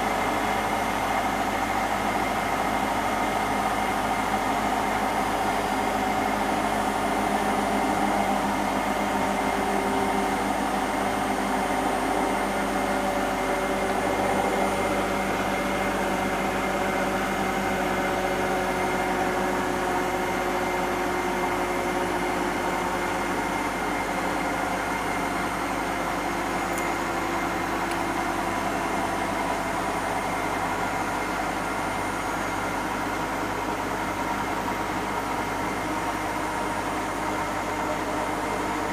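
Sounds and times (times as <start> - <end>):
washing machine spin whine: 0.0 - 38.9.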